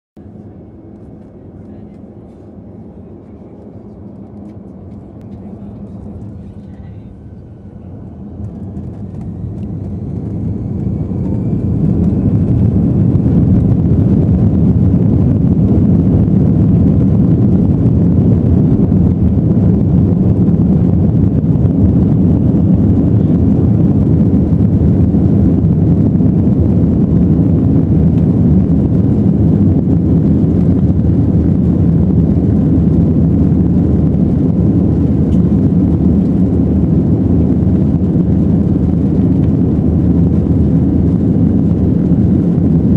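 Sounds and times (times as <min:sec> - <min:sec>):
jet engines roaring in cabin: 0:00.2 - 0:42.9.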